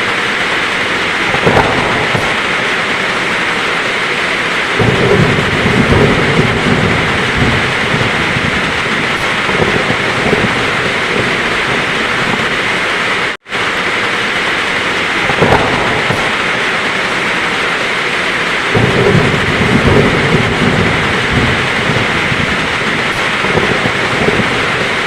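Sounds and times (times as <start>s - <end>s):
heavy rain falling: 0.0s - 25.0s
thunder rumbling: 0.0s - 25.0s.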